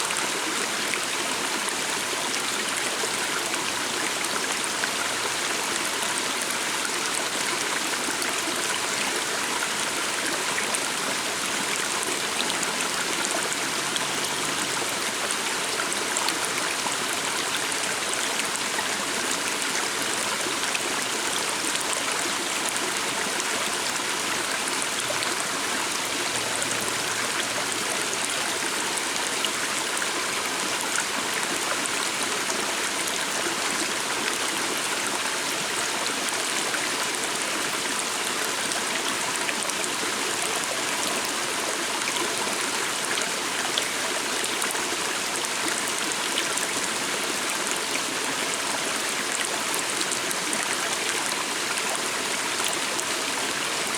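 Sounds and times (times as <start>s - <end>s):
stream flowing over stones: 0.0s - 53.9s.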